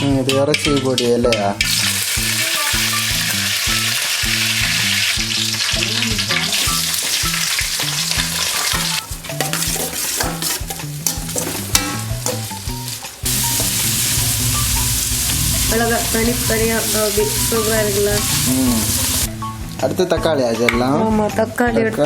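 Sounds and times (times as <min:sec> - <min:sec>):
onions sizzling in hot oil: 0:01.6 - 0:19.8.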